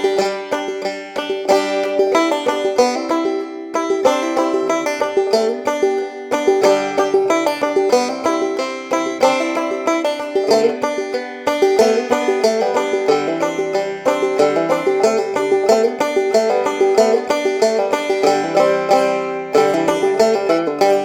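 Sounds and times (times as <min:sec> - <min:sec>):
fast-plucked banjo tune: 0:00.0 - 0:21.0.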